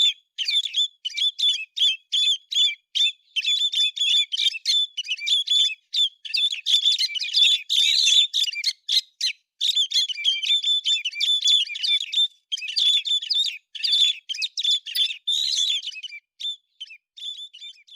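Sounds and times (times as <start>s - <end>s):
songbird chirping and whistling: 0.0s - 17.9s.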